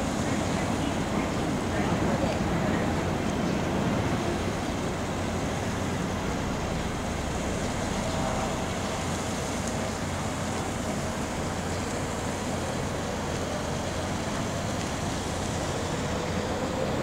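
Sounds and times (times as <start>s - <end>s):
boat engines: 0.0s - 17.0s
city traffic rumble: 0.0s - 17.0s.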